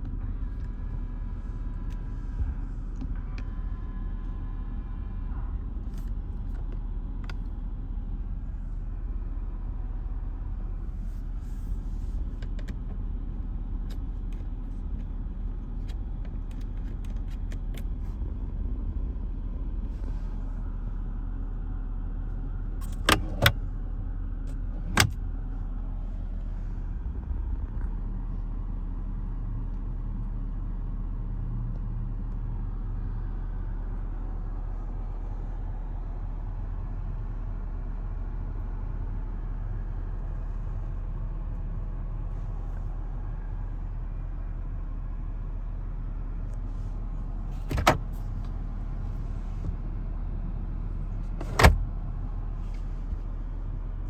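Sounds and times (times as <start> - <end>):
car engine low rumble: 0.0 - 54.0.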